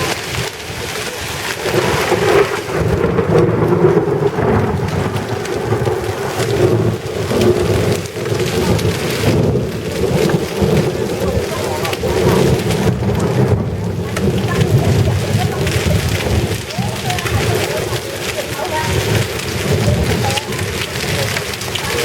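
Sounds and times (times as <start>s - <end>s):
heavy rain and hail pelting: 0.0s - 22.0s.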